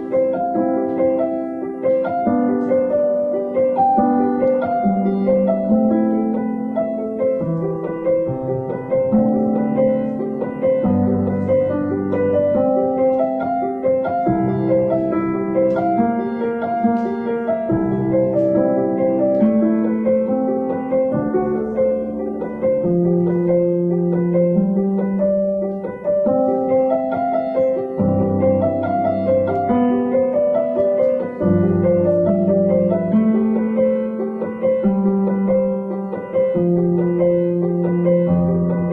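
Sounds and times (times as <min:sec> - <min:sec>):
calm piano piece: 0:00.0 - 0:38.9.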